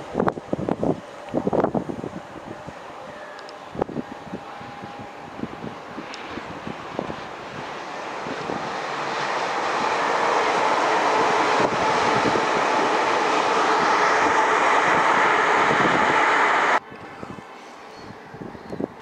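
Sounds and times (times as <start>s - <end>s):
train passing at speed: 0.0s - 18.7s.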